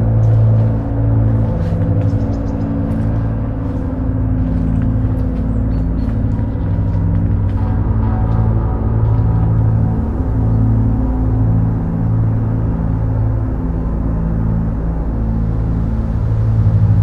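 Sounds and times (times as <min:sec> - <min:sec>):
dark ambient droning music: 0:00.0 - 0:17.0.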